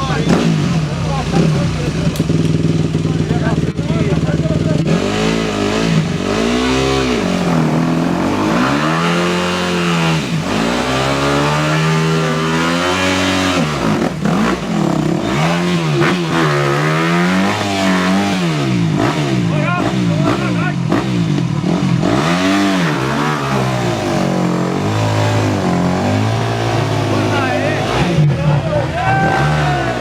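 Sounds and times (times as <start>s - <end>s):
off-road vehicle engine revving: 0.0s - 30.0s.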